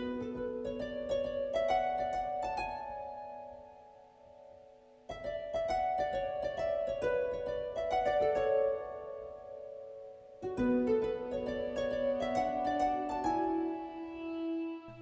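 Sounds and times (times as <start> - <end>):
plucked strings slow melody: 0.0 - 15.0.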